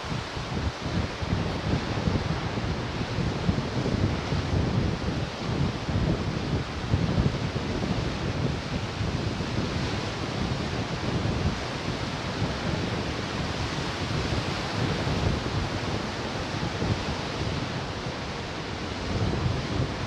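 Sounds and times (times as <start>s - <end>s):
ocean surf washing ashore: 0.0s - 20.0s
wind buffeting microphone: 0.0s - 20.0s.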